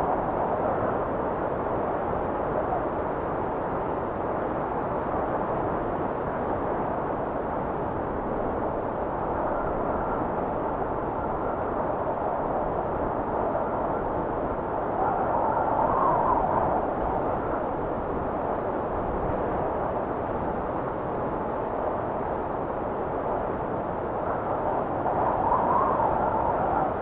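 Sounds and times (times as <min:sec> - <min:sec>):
steady wind rushing: 0:00.0 - 0:27.0.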